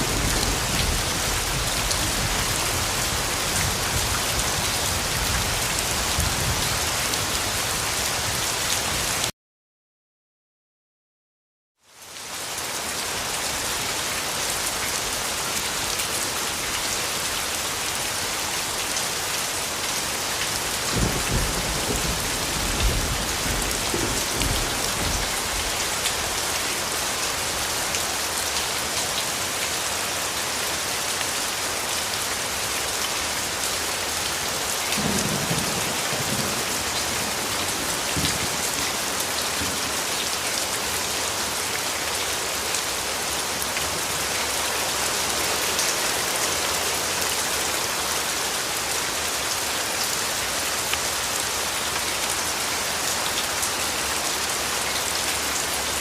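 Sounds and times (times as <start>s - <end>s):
heavy rain falling: 0.0s - 9.3s, 11.9s - 56.0s.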